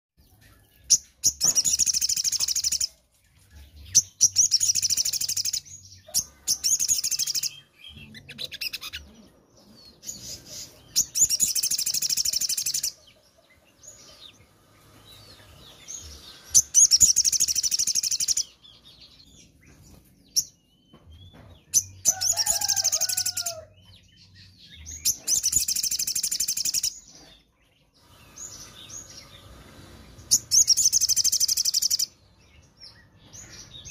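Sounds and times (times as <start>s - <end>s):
songbird chattering song: 0.2s - 33.9s.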